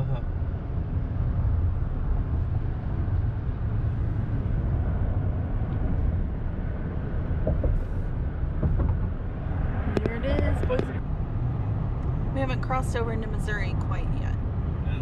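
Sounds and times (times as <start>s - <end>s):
truck cruising on highway: 0.0s - 15.0s.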